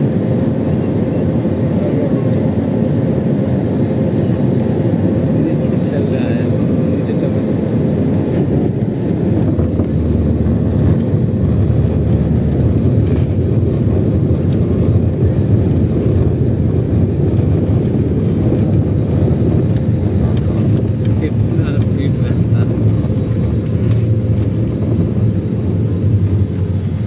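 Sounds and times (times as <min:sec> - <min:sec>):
plane engines and wheels rumbling: 0:00.0 - 0:27.0.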